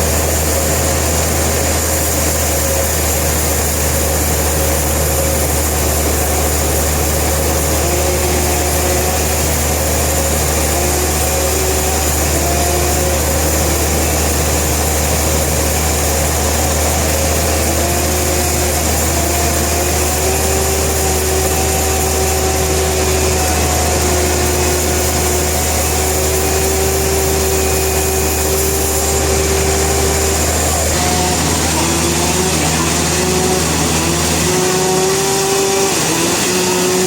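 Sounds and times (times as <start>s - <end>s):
sawmill machinery humming: 0.0s - 37.0s
wavering machine whine: 0.0s - 37.0s.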